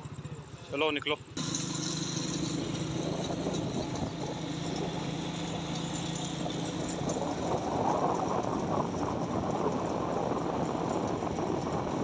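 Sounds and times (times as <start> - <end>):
small motorcycle engines humming: 0.0 - 12.0
wind and road noise: 0.0 - 12.0.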